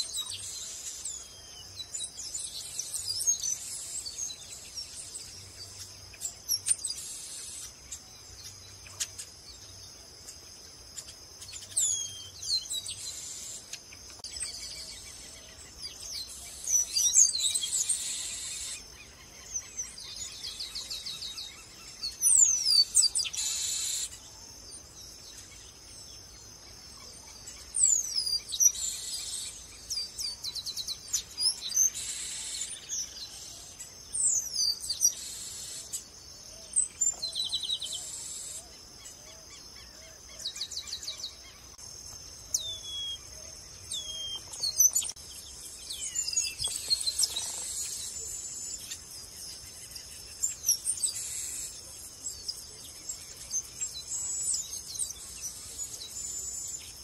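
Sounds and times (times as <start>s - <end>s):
blackbirds singing whistles and trills: 0.0s - 57.0s.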